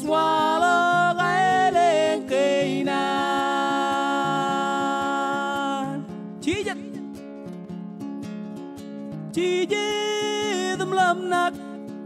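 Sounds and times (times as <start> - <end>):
man singing: 0.0 - 7.1, 9.3 - 12.0
ukulele strumming: 0.0 - 12.0.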